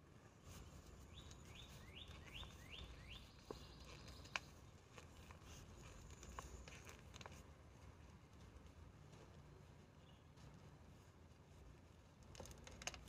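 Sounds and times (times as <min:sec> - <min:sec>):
faint clicks and taps: 0:00.5 - 0:11.1, 0:11.7 - 0:13.0.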